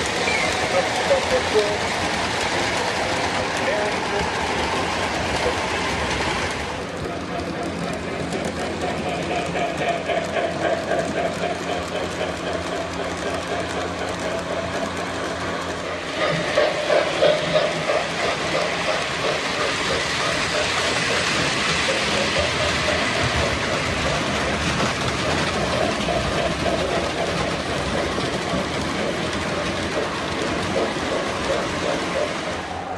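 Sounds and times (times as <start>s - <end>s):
model train wheels rattling: 0.0s - 32.9s.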